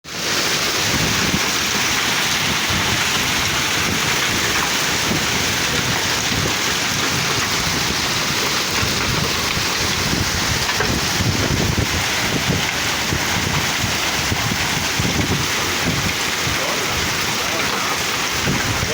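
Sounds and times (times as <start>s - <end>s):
hailstones pelting down: 0.1s - 18.9s.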